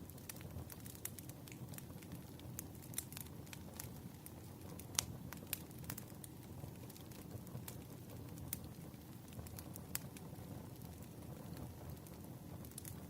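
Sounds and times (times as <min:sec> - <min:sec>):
burning wood popping and snapping: 0:00.0 - 0:13.0
low rumble of flames: 0:00.0 - 0:13.0.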